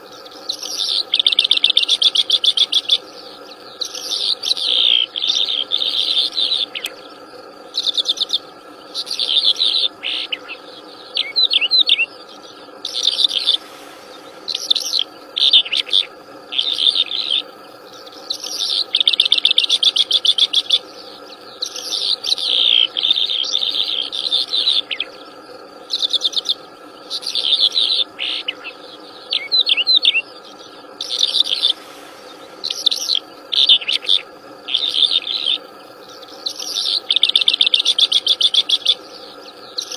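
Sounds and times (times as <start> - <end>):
faint insect hum: 0.0 - 39.9
songbird chirping: 0.0 - 39.9.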